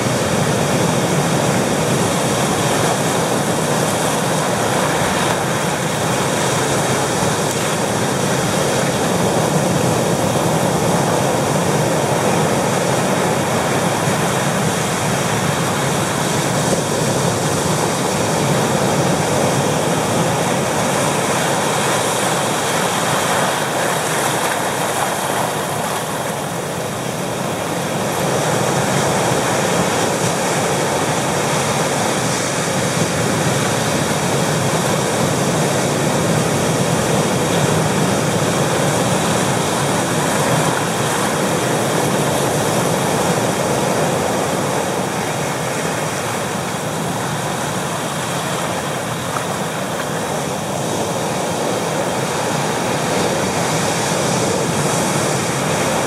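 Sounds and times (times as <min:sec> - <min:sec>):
surf breaking over rocks: 0:00.0 - 0:56.0.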